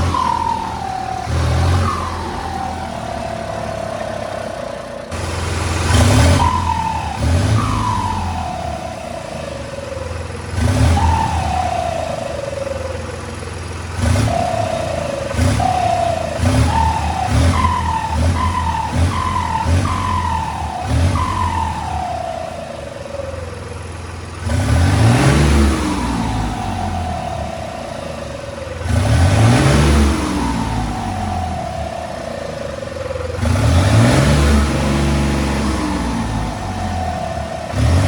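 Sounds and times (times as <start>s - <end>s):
turbo whistling: 0.0s - 38.0s
turbocharged engine revving: 0.0s - 38.0s.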